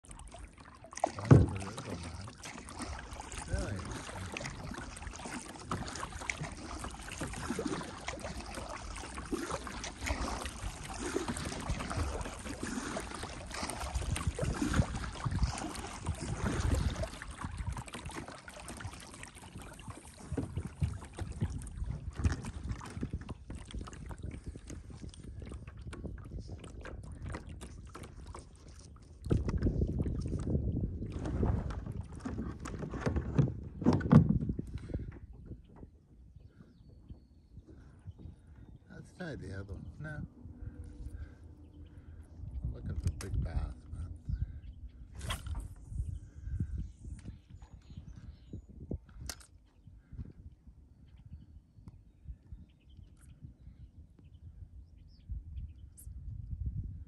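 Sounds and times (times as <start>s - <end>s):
water lapping against a boat: 0.0s - 57.0s.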